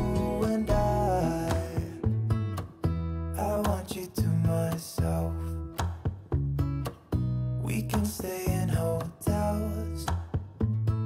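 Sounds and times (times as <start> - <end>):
acoustic guitar song: 0.0 - 11.0.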